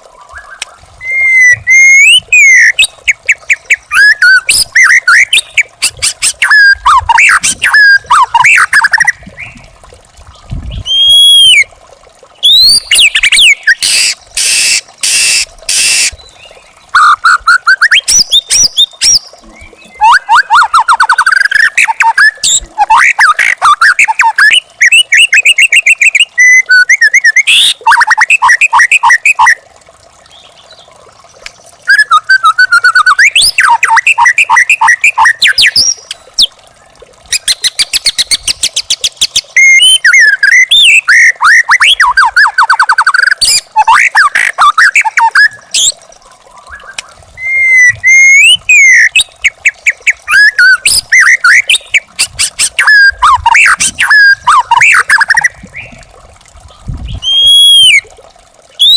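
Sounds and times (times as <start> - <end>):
bird singing whistles and trills: 0.3 - 9.6, 10.6 - 11.7, 12.4 - 29.6, 31.9 - 36.5, 37.3 - 46.0, 46.7 - 56.0, 57.0 - 58.0.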